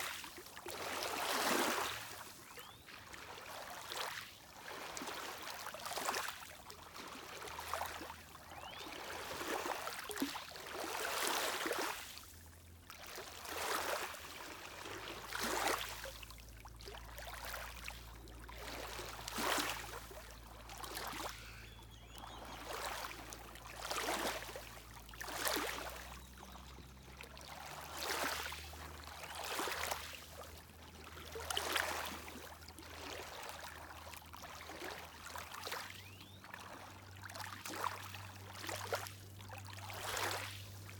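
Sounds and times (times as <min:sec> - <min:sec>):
waves lapping on shore: 0:00.0 - 0:40.9
low boat motor hum: 0:04.4 - 0:40.9.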